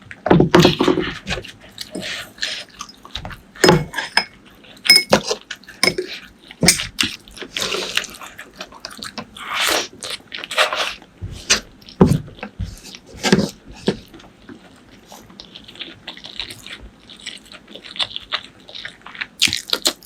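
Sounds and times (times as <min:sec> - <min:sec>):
wet chewing and crunching: 0:00.6 - 0:20.0.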